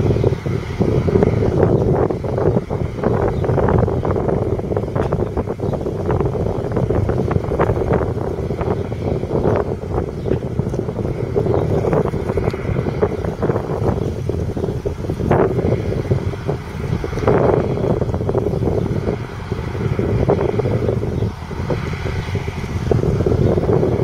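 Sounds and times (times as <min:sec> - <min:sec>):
combine harvester diesel drone: 0:00.0 - 0:24.0.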